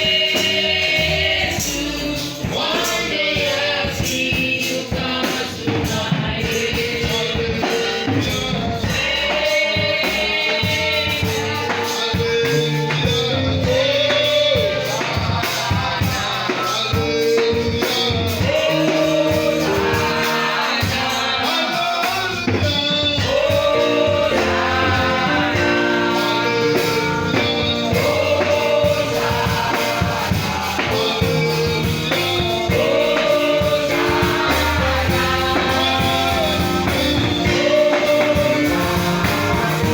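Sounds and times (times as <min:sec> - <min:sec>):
band with steady beat: 0:00.0 - 0:39.9
gospel singing: 0:00.0 - 0:39.9.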